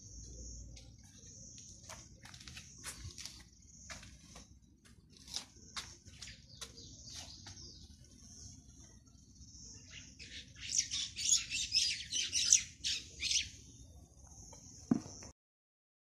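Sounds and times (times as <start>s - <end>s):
birds chirping: 0.0s - 15.3s.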